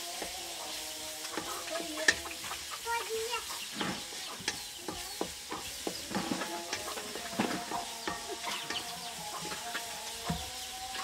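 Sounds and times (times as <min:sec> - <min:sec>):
chicken clucking: 0:00.0 - 0:11.0
onions sizzling in hot oil: 0:00.0 - 0:11.0
spatula stirring and scraping: 0:00.0 - 0:11.0
spatula clacking on pan: 0:00.1 - 0:11.0.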